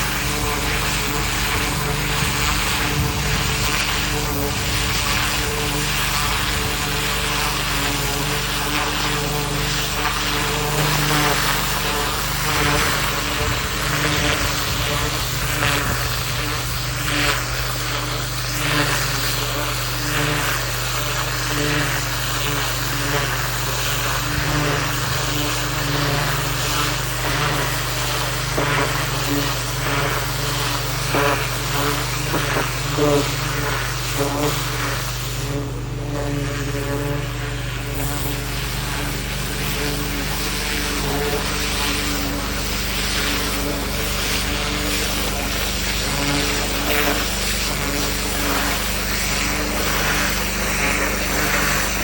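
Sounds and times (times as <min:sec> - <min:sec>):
pressure washer engine running: 0:00.0 - 0:52.0
water jet hissing on gravel: 0:00.0 - 0:52.0.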